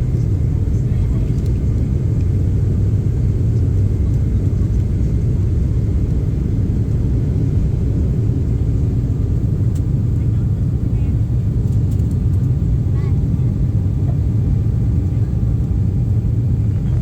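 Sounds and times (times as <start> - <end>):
jet engine cabin rumble: 0.0 - 17.0.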